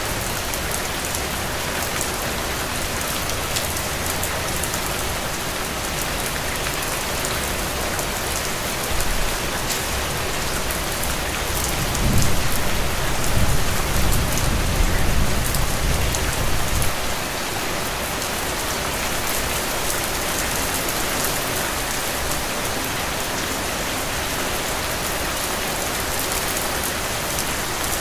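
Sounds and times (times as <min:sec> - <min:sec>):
heavy rain on puddles: 0:00.0 - 0:28.0.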